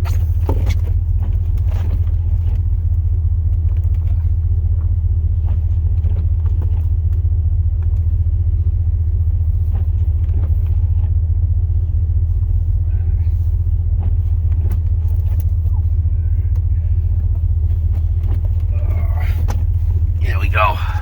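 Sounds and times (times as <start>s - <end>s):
faint rustles: 0.0s - 21.0s
truck engine rumble: 0.0s - 21.0s.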